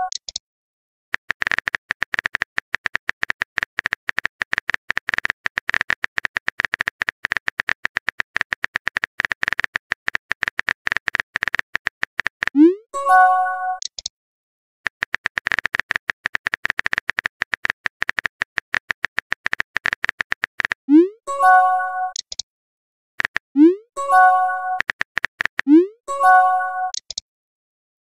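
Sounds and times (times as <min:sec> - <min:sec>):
keyboard typing clicks: 0:00.0 - 0:00.4, 0:01.2 - 0:12.7, 0:13.7 - 0:14.1, 0:14.9 - 0:20.8, 0:22.1 - 0:22.4, 0:23.2 - 0:27.2.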